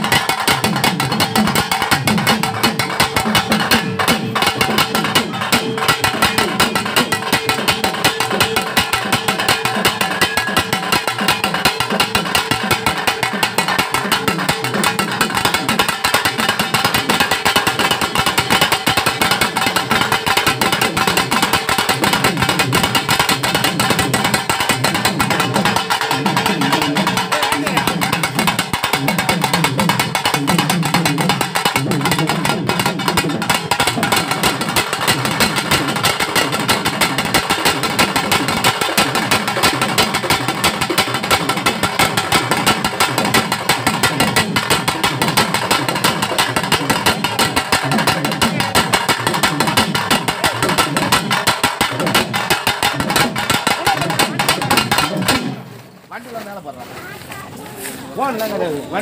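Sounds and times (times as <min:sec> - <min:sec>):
group drumming fast rhythm: 0:00.0 - 0:55.8.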